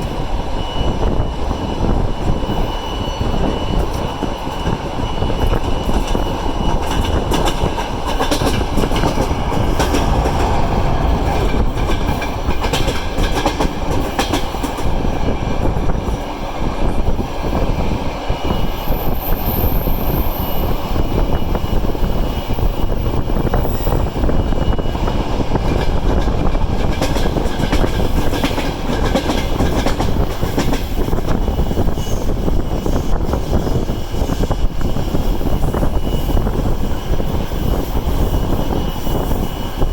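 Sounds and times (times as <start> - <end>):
train rumble: 0.0 - 39.9
train wheels clicking on rail joints: 1.0 - 39.9.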